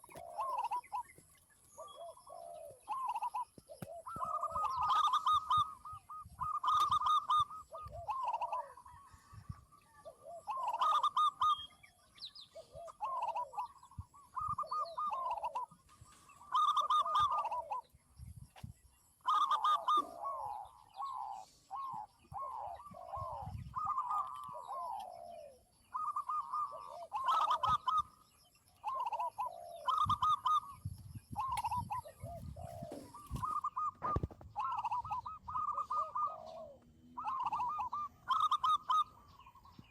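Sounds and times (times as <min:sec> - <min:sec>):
doves cooing: 0:00.0 - 0:17.9, 0:19.1 - 0:28.2, 0:28.8 - 0:39.9.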